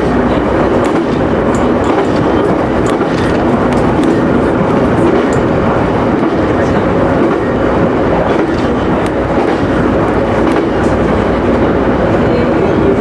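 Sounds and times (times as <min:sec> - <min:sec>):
train motor hum: 0:00.0 - 0:13.0
train wheels rumbling on rails: 0:00.0 - 0:13.0.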